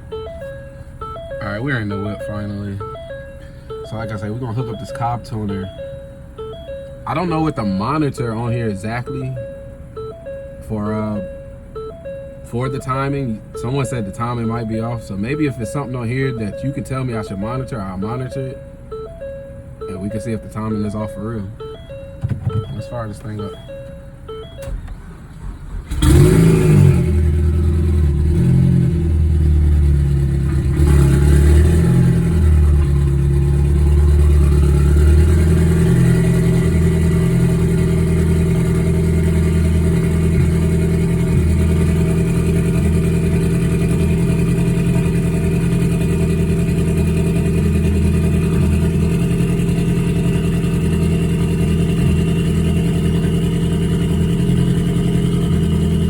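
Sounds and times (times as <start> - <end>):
car engine cranking and starting: 0.0 - 56.0
car engine idling unevenly: 0.0 - 56.0.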